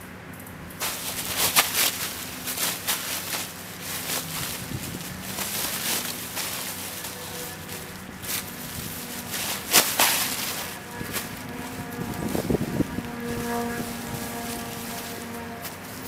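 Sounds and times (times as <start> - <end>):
tarp fabric rustling and flapping: 0.8 - 16.0.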